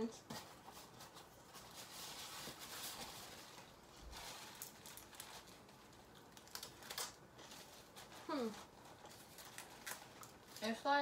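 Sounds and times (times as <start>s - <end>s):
foil wrapper rustling: 0.8s - 11.0s.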